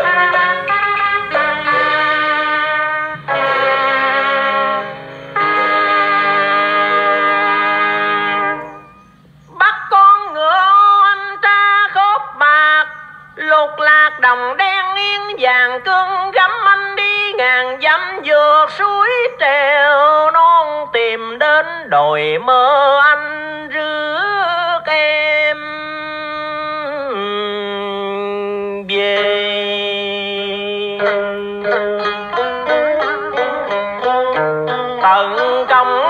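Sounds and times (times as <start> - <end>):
person singing on cassette: 0.0 - 3.7, 9.5 - 34.1, 34.7 - 36.0.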